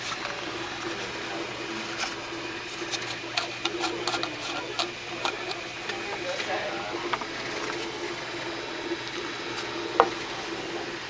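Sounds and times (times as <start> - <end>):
printer motors whirring: 0.0 - 11.0.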